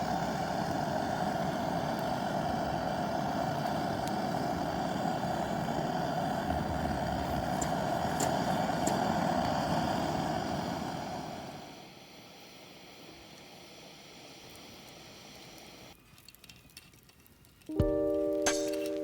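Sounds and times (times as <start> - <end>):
pressurised burner hissing: 0.0 - 16.0.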